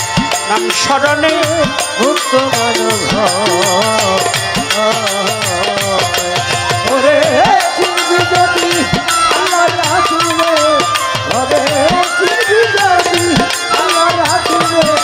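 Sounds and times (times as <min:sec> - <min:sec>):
fast percussion: 0:00.0 - 0:15.0
gliding melody line: 0:00.0 - 0:15.0.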